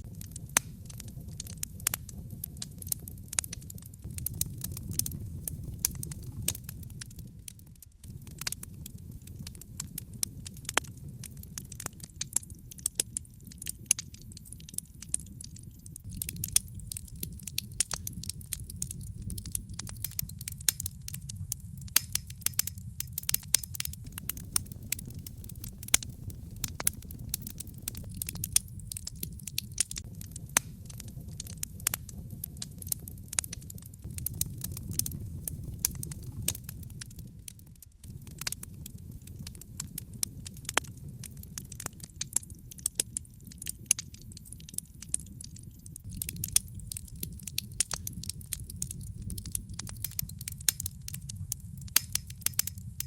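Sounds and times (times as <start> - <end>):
burning wood popping and snapping: 0.0 - 53.0
low rumble of flames: 0.0 - 53.0.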